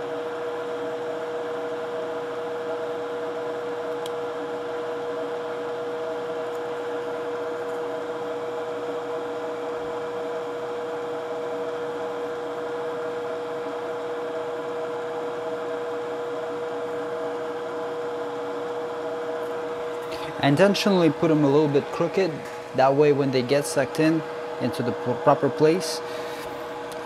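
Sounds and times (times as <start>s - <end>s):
equipment fan hum: 0.0s - 27.0s
mid-pitched whine: 0.0s - 27.0s.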